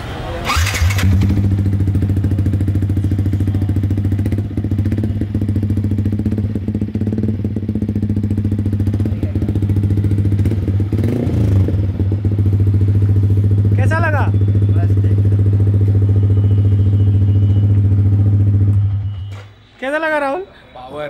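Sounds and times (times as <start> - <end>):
motorcycle engine starting and idling: 0.4 - 19.4.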